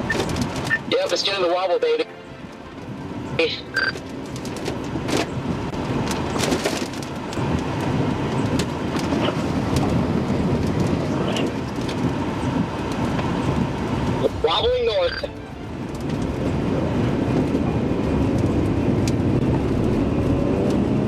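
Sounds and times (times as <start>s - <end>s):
strong winds rushing: 0.0s - 21.0s.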